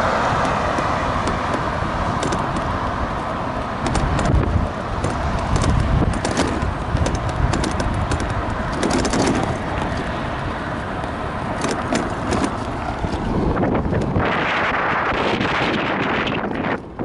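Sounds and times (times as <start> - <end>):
scooter clicks and rattles: 0.0 - 17.0
wind buffeting microphone: 0.0 - 17.0.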